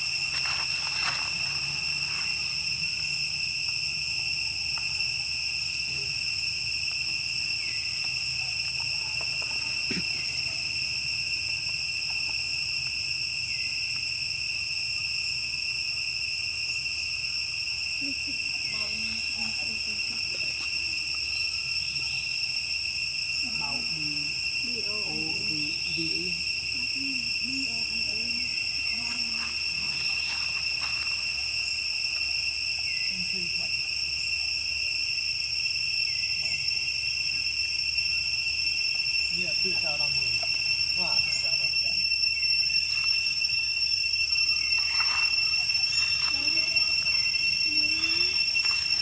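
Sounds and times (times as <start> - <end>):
insect drone: 0.0 - 49.0
wavering low calls: 0.0 - 49.0.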